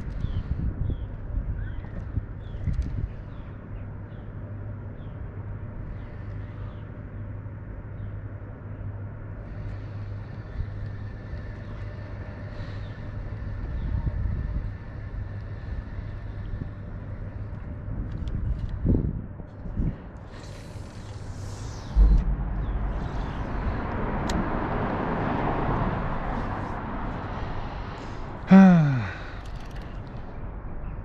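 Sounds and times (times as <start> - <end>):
distant motor drone: 0.0 - 31.0.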